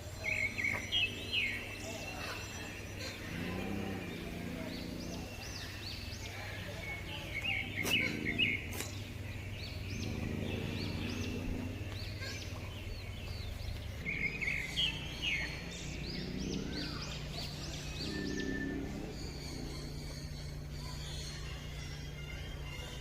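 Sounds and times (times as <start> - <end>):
birds chattering: 0.0 - 23.0
birds chirping: 0.0 - 23.0
lower fuller bird call: 0.2 - 23.0.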